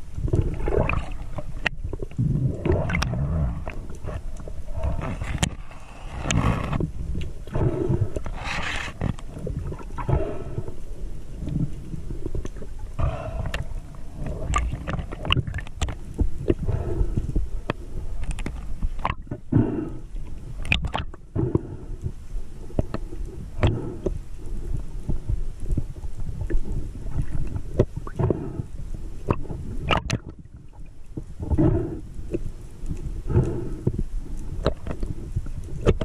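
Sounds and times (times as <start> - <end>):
low underwater rumble: 0.0 - 36.0.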